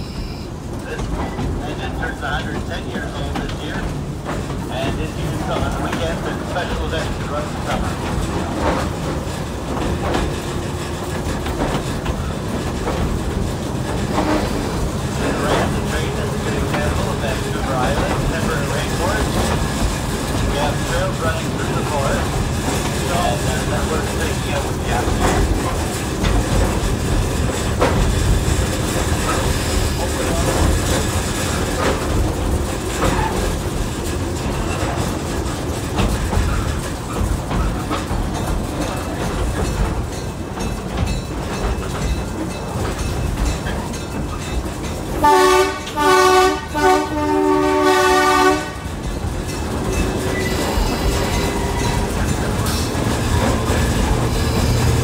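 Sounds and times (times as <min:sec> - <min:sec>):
train car low rumble: 0:00.0 - 0:55.0
wheels clacking on rails: 0:00.0 - 0:55.0.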